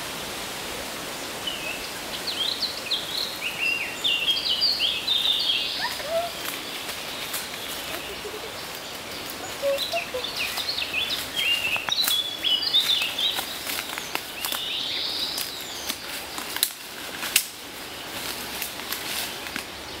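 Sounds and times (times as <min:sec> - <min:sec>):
small birds chirping: 0:01.4 - 0:20.0.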